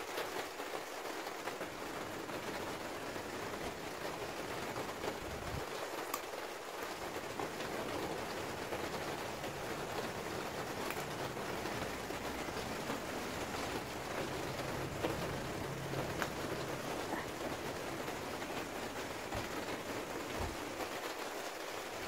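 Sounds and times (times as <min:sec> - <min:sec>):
rain falling on plants: 0:00.0 - 0:22.0.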